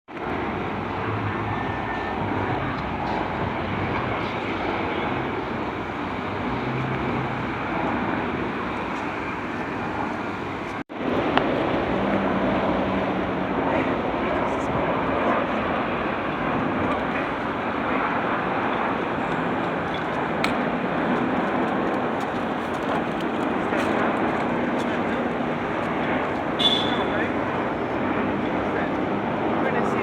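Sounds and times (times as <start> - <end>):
helicopter engine and rotor drone: 0.1 - 30.0.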